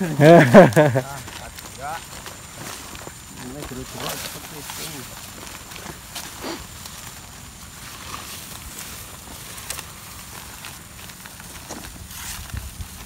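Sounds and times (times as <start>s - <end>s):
footsteps through tall grass: 0.0s - 13.0s.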